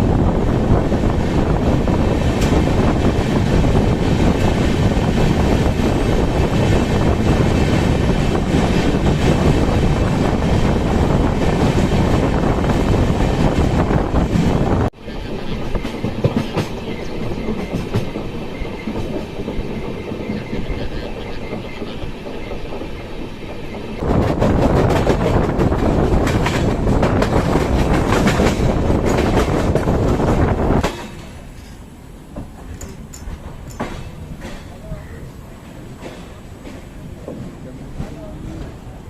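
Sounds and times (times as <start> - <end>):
train rumbling on track: 0.0 - 39.0
wheels clacking over rails: 0.0 - 39.0.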